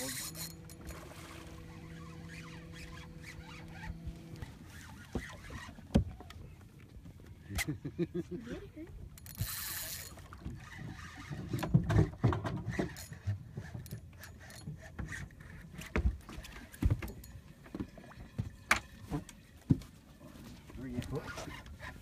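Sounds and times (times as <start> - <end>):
water lapping against boat hull: 0.0 - 22.0.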